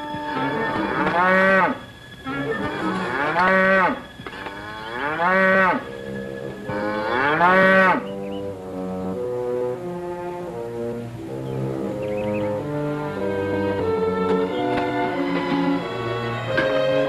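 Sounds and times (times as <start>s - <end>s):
cattle mooing: 0.0s - 16.7s.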